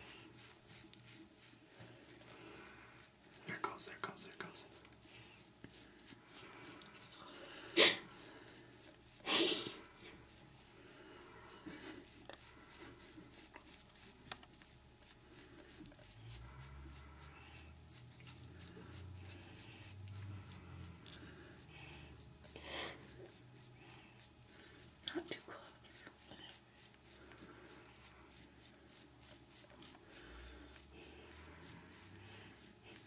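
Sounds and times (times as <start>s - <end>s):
toothbrush rubbing over quills: 0.0s - 33.0s.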